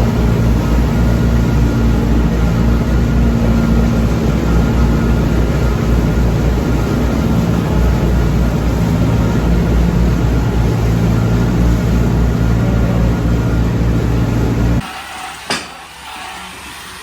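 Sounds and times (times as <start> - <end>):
machine engine humming: 0.0 - 15.1.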